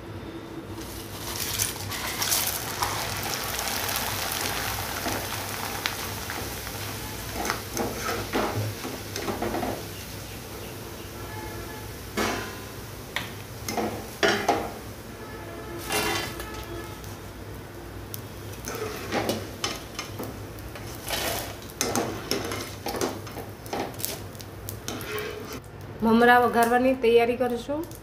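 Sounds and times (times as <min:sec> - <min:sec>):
oil sizzling: 0:00.7 - 0:25.8.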